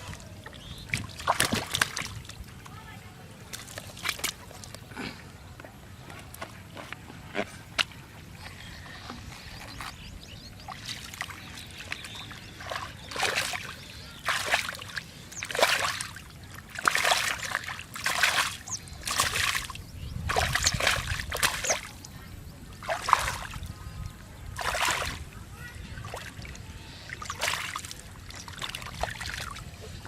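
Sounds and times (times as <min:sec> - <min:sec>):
muddy water splashing: 0:00.0 - 0:30.0.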